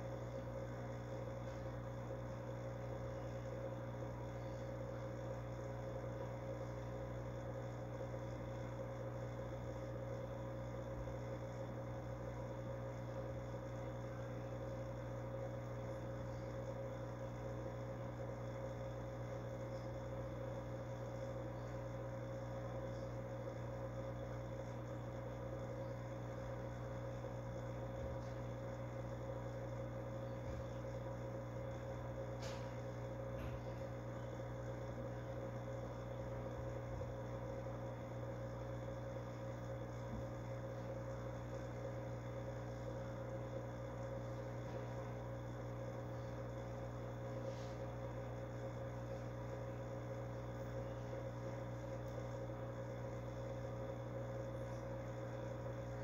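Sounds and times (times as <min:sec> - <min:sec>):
aquarium pump humming: 0:00.0 - 0:56.0.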